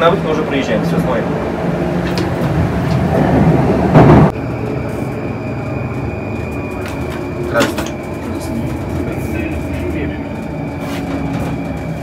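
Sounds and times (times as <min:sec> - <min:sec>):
train low rumble with whine: 0:00.0 - 0:12.0.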